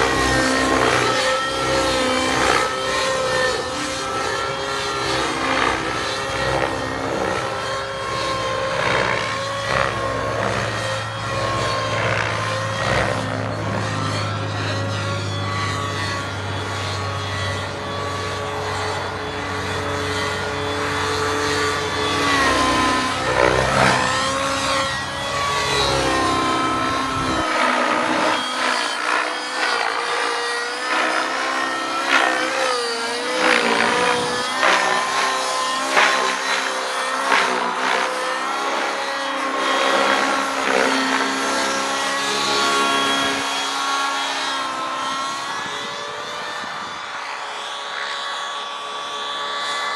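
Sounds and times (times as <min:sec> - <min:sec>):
radio-controlled helicopter flying: 0:00.0 - 0:49.9.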